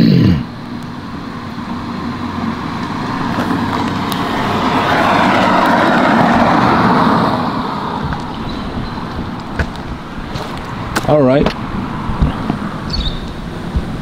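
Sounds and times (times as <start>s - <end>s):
passing vehicle rushing: 0.9s - 14.0s.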